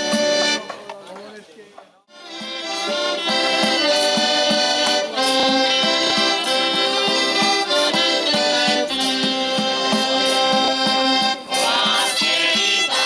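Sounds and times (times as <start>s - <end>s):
accordion playing folk tune: 0.0s - 0.7s, 2.1s - 13.0s.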